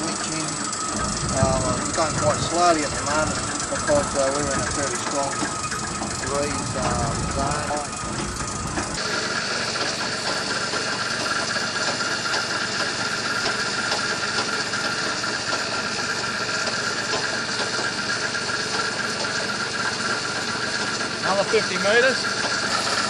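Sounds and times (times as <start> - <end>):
winch motor whirring: 0.0 - 23.0.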